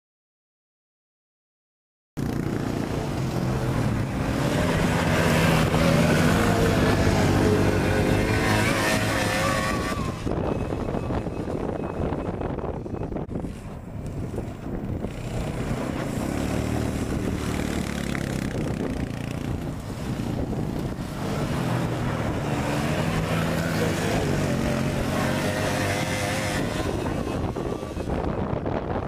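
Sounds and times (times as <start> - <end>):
quad bike engines passing: 2.2 - 29.0.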